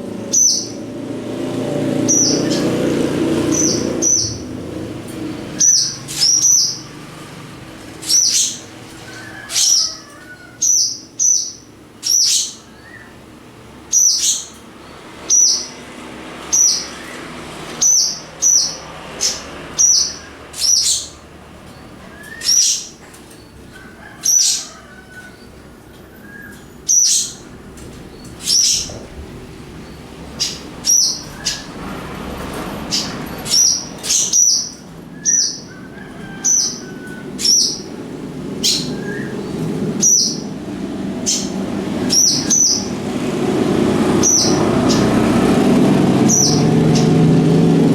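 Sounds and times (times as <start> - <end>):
swallows calling: 0.0 - 31.8, 32.8 - 47.4.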